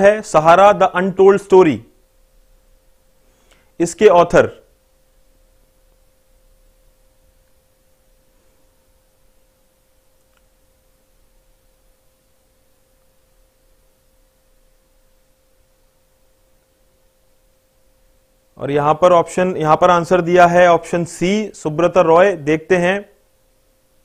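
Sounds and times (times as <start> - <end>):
faint steady tone: 0.0 - 24.0.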